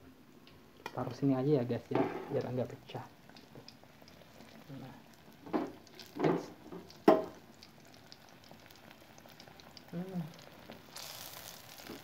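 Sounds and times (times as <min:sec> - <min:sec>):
tofu sizzling in oil: 0:00.6 - 0:12.0.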